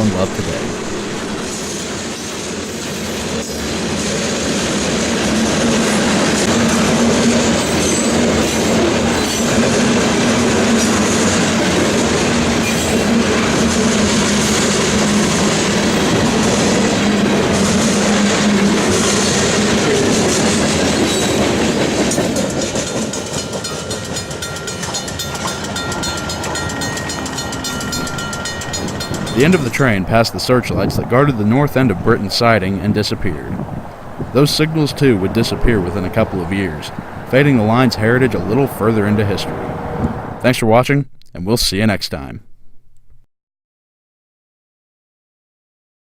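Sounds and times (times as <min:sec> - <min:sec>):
freight train cars clacking on rails: 0:00.0 - 0:40.2.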